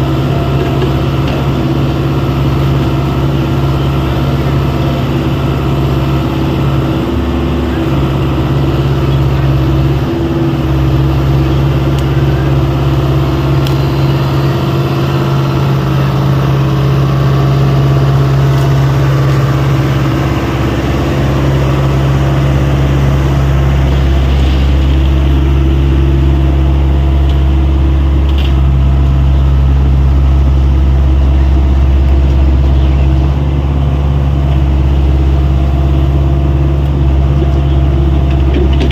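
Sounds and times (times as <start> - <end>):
excavator engine droning: 0.0 - 38.9.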